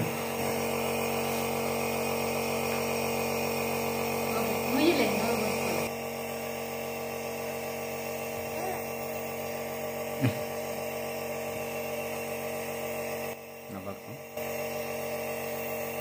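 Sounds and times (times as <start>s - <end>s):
small motor humming: 0.0s - 16.0s.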